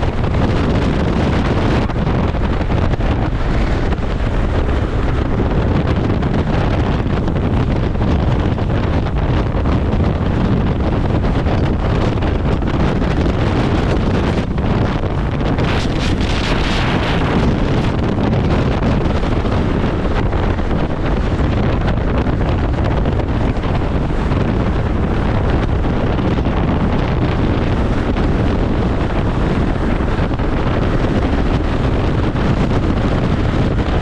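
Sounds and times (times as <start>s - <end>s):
strong wind buffeting microphone: 0.0s - 34.0s.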